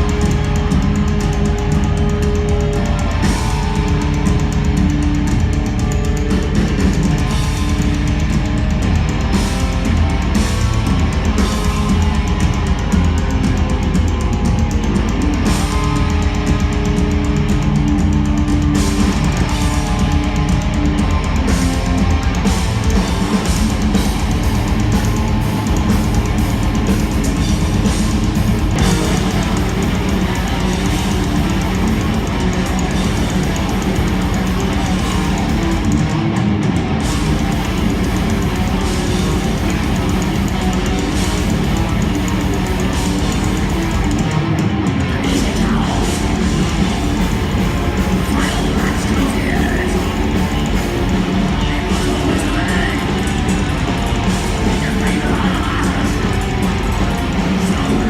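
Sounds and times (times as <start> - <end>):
heavy metal music: 0.0 - 58.0.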